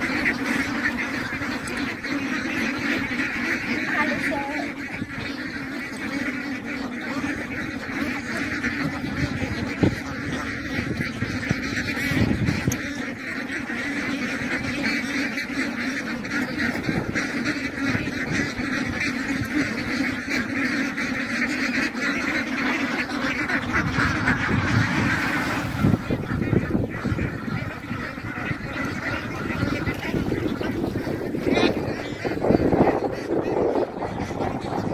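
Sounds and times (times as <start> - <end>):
ducks quacking: 0.0 - 34.9.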